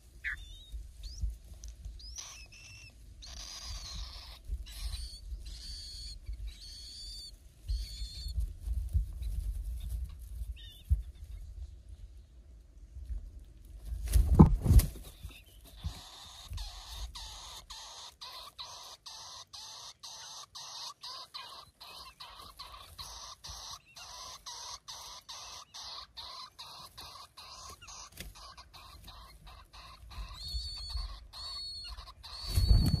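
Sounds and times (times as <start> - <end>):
nestling birds begging calls: 0.0 - 8.4, 14.6 - 33.0.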